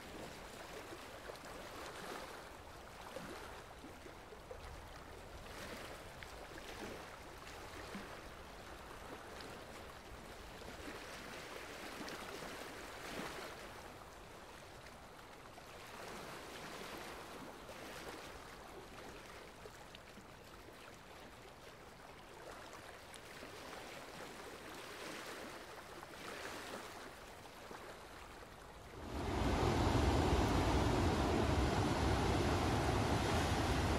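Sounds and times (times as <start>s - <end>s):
sea water lapping at shore: 0.0s - 33.9s.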